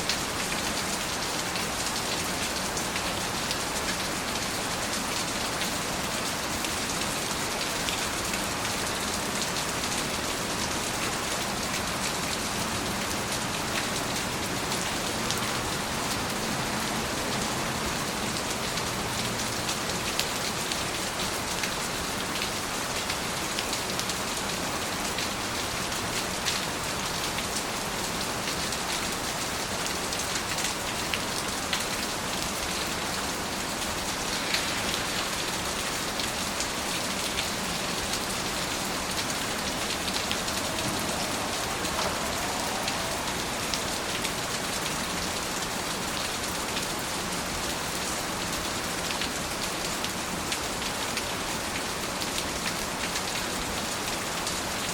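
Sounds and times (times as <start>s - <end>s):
rain pattering on a surface: 0.0s - 54.9s.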